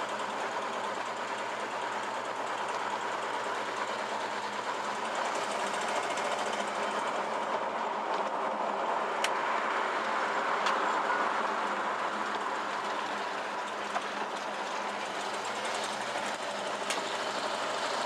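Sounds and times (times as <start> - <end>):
car engine driving: 0.0 - 18.0.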